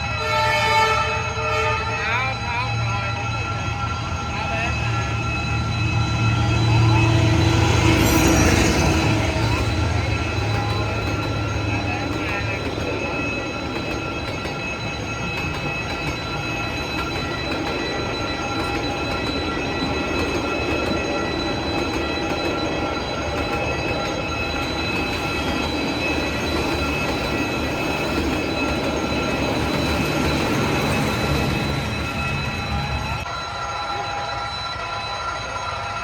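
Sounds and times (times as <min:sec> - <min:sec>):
high wheel squeal: 0:00.0 - 0:36.0
train wheels rumbling: 0:00.0 - 0:36.0.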